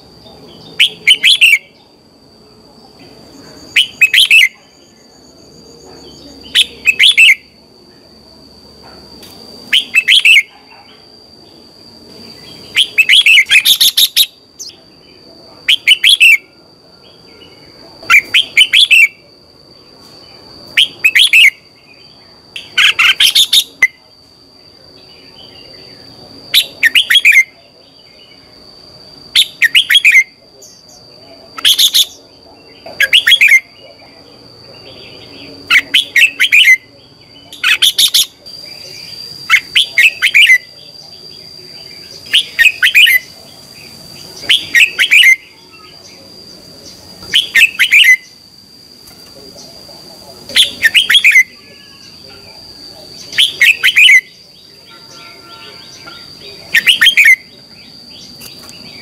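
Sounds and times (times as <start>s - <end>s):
bird singing song phrases: 0.2s - 8.1s, 9.6s - 28.7s, 29.3s - 48.4s, 49.0s - 59.0s.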